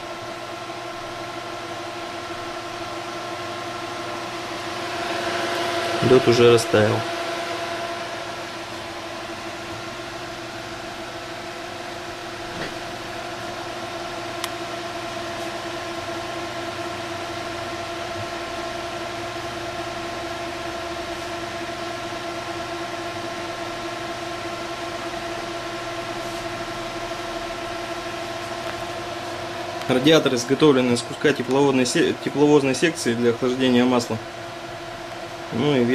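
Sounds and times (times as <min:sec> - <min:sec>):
fans rushing air and humming: 0:00.0 - 0:35.9.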